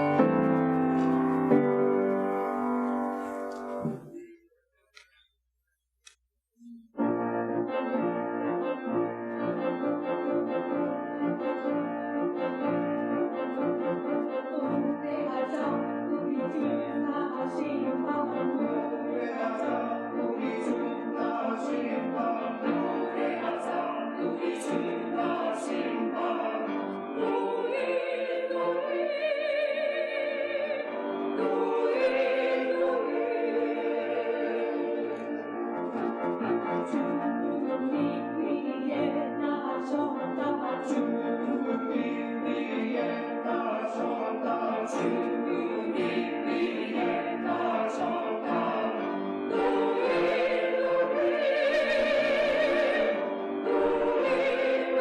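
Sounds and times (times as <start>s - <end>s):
church choir singing: 0.0s - 4.4s, 7.1s - 55.0s.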